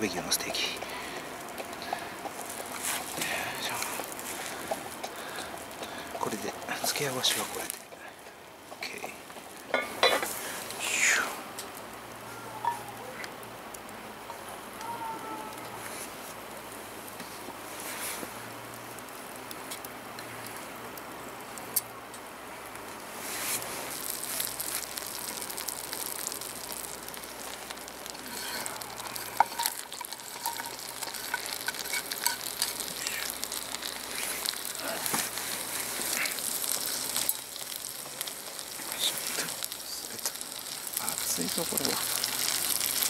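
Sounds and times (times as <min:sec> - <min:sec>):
butter sizzling in skillet: 0:00.0 - 0:14.7, 0:22.7 - 0:43.0.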